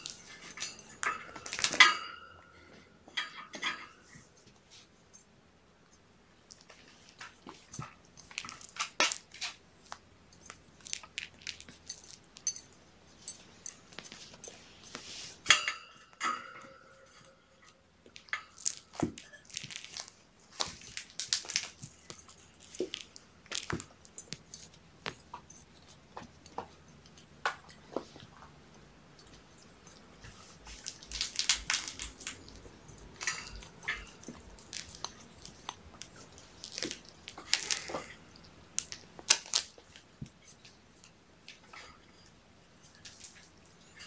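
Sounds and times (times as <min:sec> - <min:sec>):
kittens playing with toys: 0:00.0 - 0:05.3, 0:05.9 - 0:44.0.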